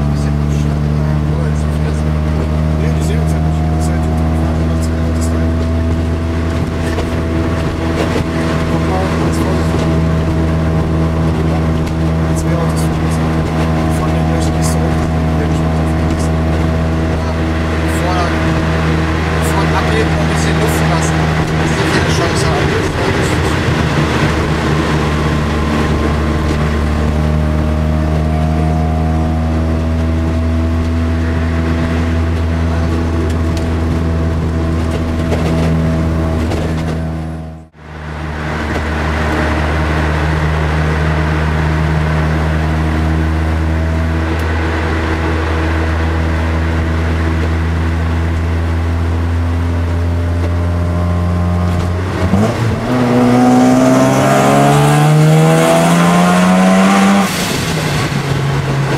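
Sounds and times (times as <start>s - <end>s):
rotary engine from inside car: 0.0s - 58.9s.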